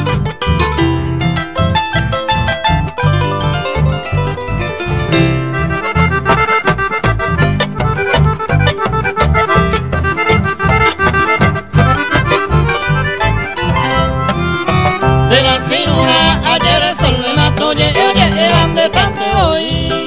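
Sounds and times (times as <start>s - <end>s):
acoustic guitars: 0.0s - 20.0s
harp: 0.0s - 20.0s
piano accordion melody: 0.0s - 20.0s.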